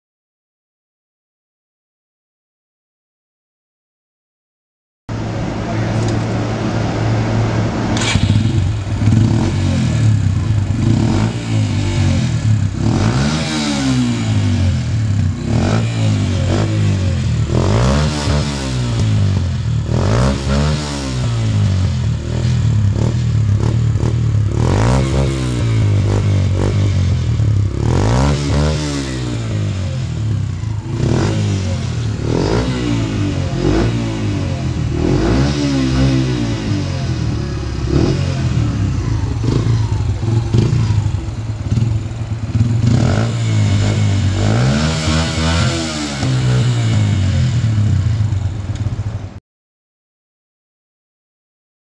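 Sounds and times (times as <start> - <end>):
motorcycle engine revving: 5.1 - 49.4.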